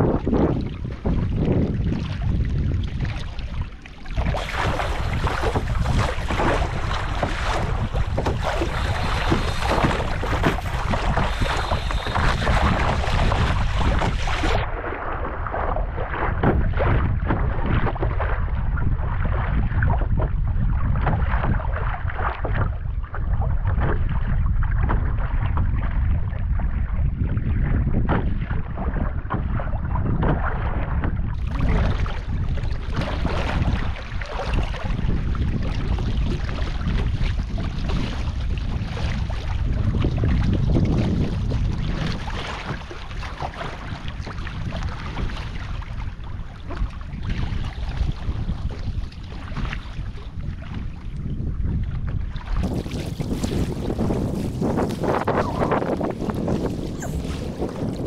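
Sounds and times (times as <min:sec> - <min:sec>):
sea and water noise: 0:00.0 - 0:58.0
wind buffeting microphone: 0:00.0 - 0:58.0.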